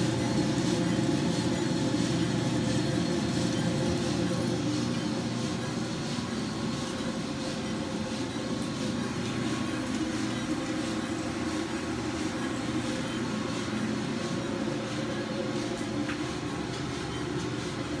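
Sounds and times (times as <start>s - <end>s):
coffee roaster motor and fans drone: 0.0s - 18.0s.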